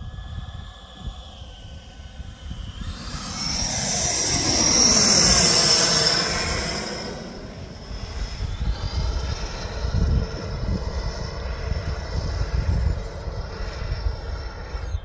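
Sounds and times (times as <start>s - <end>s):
distant whine of jet model fans: 0.0s - 15.0s.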